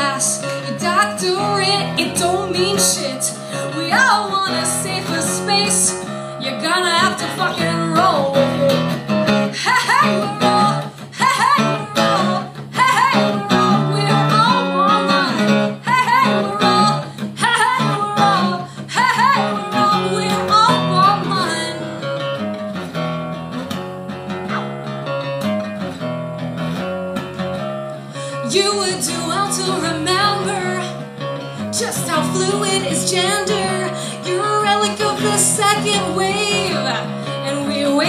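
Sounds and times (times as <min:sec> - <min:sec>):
woman singing: 0:00.0 - 0:22.2, 0:28.1 - 0:38.0
strummed acoustic guitar: 0:00.0 - 0:38.0.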